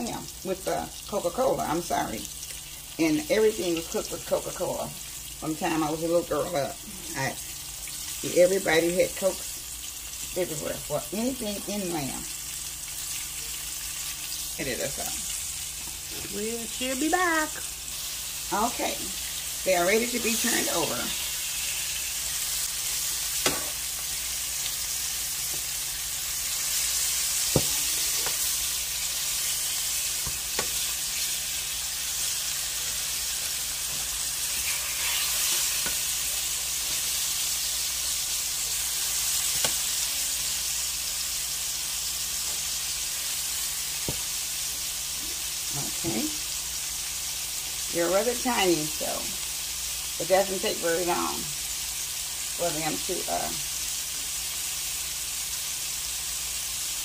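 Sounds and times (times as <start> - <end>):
meat sizzling in hot oil: 0.0 - 57.0.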